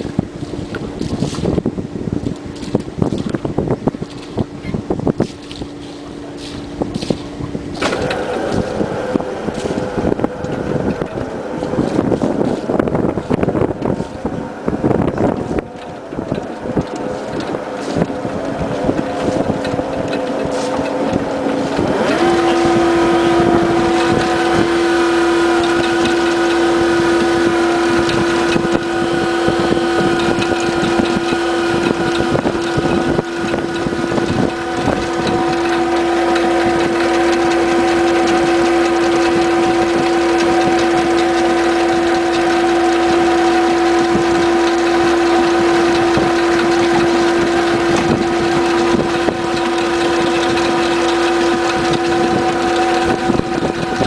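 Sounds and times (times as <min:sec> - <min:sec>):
ferry engine humming: 0:00.0 - 0:54.0
wind on microphone: 0:00.0 - 0:54.0.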